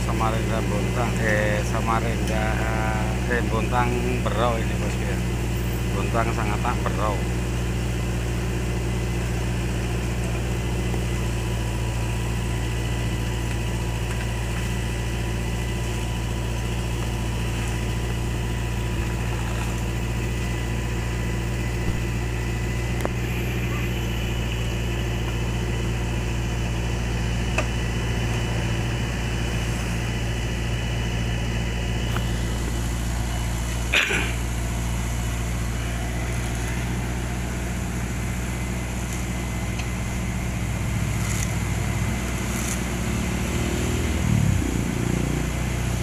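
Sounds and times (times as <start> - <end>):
heavy diesel engines running: 0.0 - 46.0.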